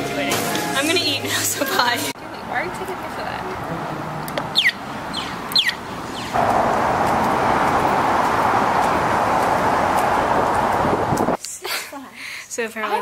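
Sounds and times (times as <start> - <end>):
road traffic noise: 0.0 - 11.4.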